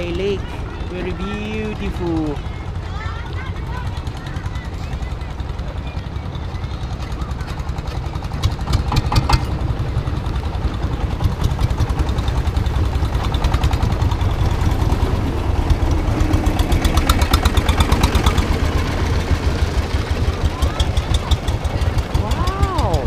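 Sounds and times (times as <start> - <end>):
boat engine chugging: 0.0 - 23.0.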